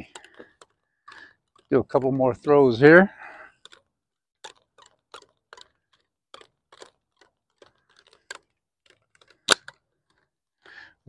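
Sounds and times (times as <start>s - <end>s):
fishing line winding clicks: 0.0s - 1.8s, 3.5s - 10.8s.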